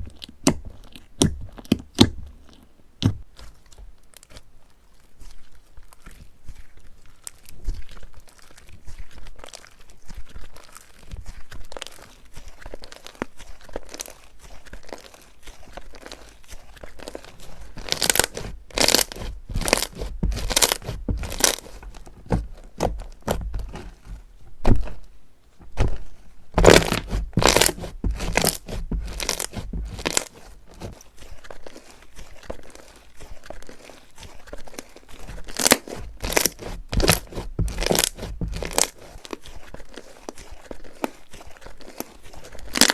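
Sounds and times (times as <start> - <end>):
slime crackling and squishing: 0.0 - 42.9.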